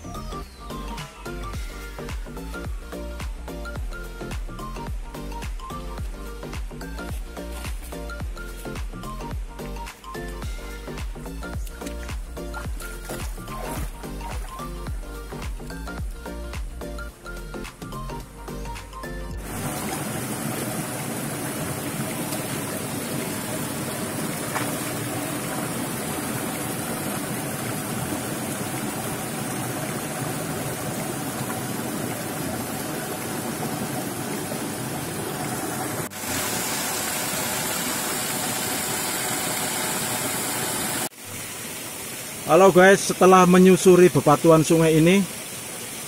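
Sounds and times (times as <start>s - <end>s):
mountain stream rushing: 1.0s - 17.8s, 18.8s - 46.0s
waterfall pouring over boulders: 1.6s - 16.3s, 19.4s - 46.0s.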